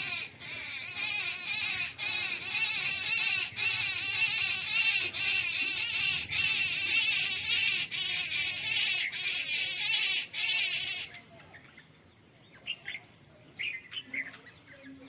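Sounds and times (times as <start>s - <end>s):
flock of small birds chirping: 0.0s - 15.0s.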